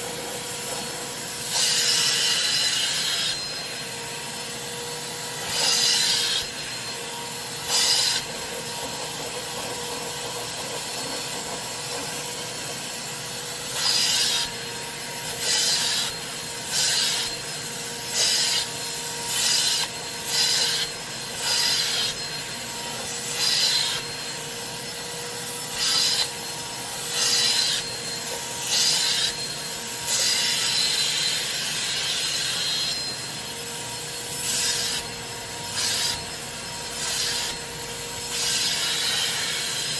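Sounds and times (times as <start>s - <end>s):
carpet cleaning machine running: 0.0s - 39.9s
cleaning tool hissing over fabric: 0.0s - 39.9s.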